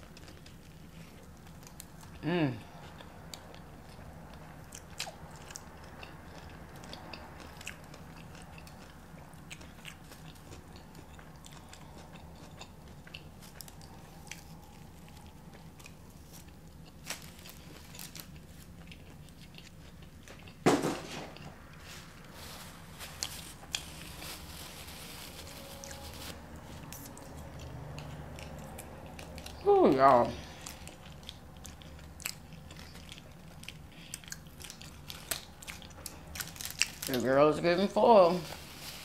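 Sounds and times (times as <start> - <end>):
person chewing food: 0.0 - 20.6, 21.2 - 37.1.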